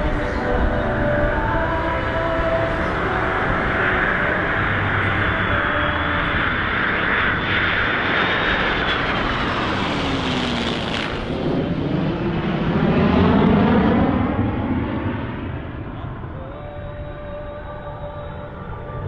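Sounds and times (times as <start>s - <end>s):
aircraft flying past: 0.0s - 19.0s.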